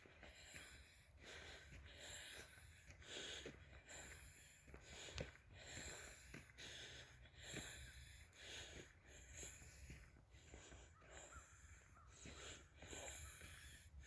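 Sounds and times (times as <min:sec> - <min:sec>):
faint footsteps: 0:00.0 - 0:14.0
person breathing heavily: 0:00.0 - 0:14.0.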